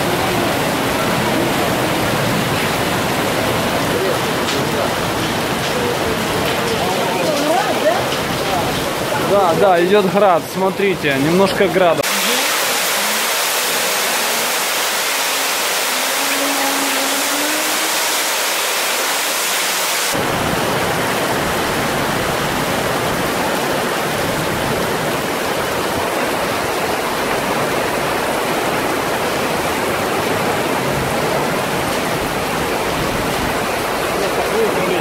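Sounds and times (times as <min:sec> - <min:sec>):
cars swishing through water: 0:00.0 - 0:35.0
heavy rain and hail on street: 0:00.0 - 0:35.0.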